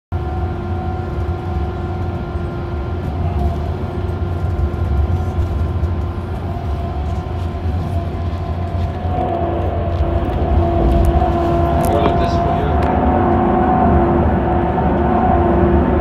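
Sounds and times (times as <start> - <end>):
bus engine and road rumble: 0.1 - 16.0.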